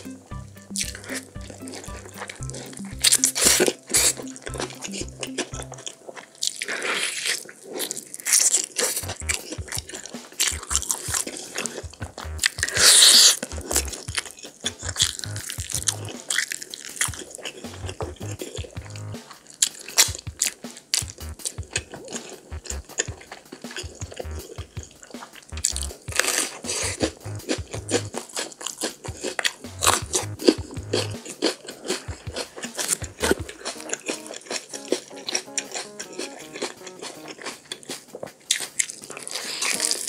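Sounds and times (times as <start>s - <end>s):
wet bites and chewing: 0.2s - 24.7s, 25.5s - 40.0s.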